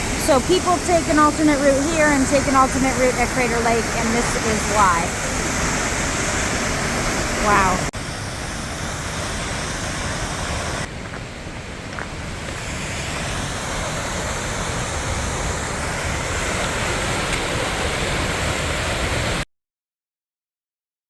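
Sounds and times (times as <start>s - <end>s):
waterfall rushing: 0.0s - 19.4s.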